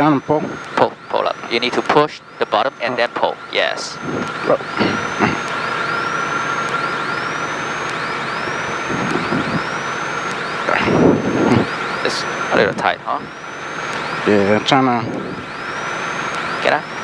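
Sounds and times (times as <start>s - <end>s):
helicopter engine and rotor idling: 0.0s - 17.0s
steady high whine: 0.0s - 17.0s.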